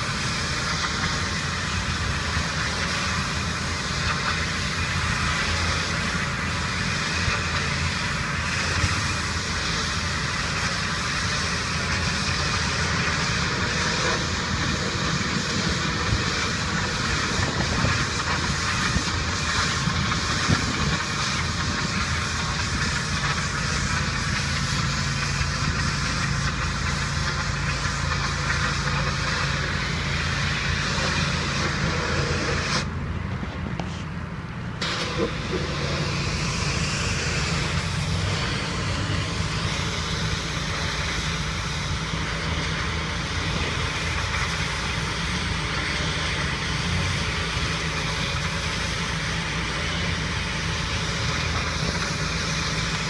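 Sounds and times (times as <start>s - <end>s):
high-pressure spray hissing: 0.0s - 32.9s, 34.8s - 53.0s
pressure washer engine hum: 0.0s - 53.0s.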